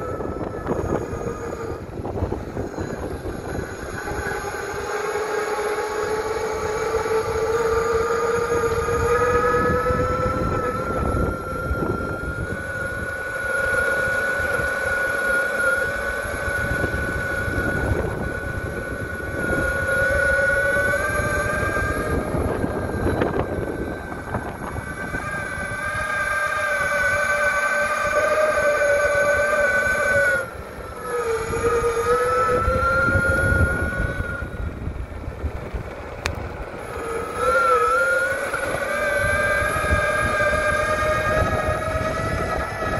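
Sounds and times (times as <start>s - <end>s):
electric motors whining: 0.0s - 42.9s
wheels rumbling on ground: 0.0s - 42.9s.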